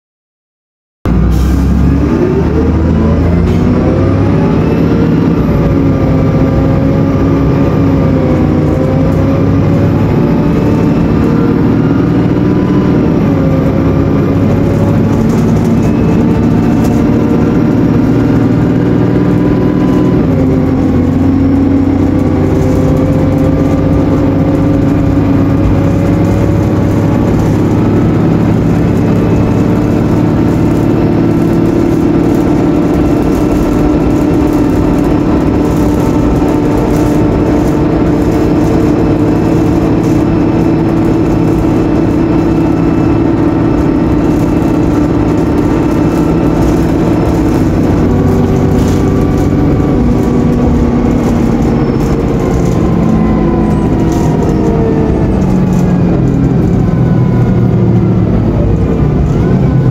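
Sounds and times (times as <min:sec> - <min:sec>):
bus diesel engine at full throttle: 0:01.0 - 0:59.9.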